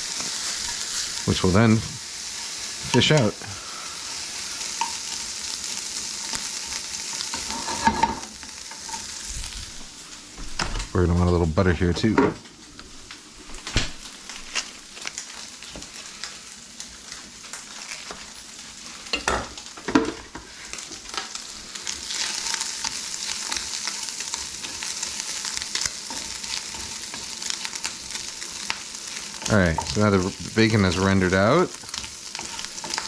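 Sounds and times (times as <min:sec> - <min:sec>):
bacon sizzling in a pan: 0:00.0 - 0:33.0.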